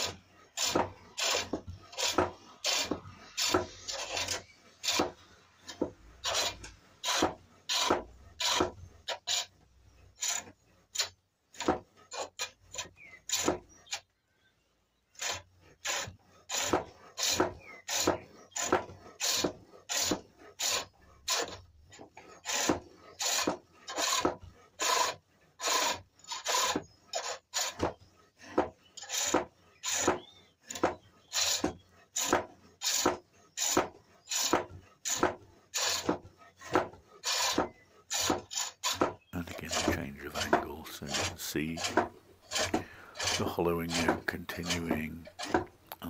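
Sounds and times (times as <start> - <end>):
lathe tool scraping wood: 0.0 - 14.1, 15.0 - 46.0.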